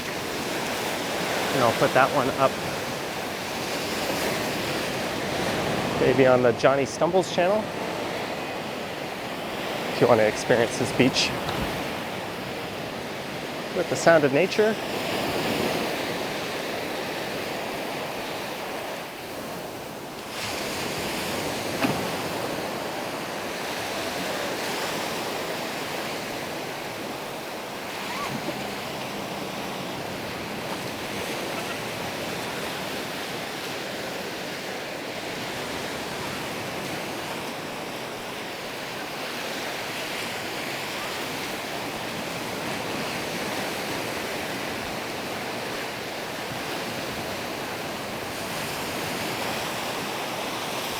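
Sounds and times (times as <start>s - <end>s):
sea waves washing onto beach: 0.0s - 50.9s.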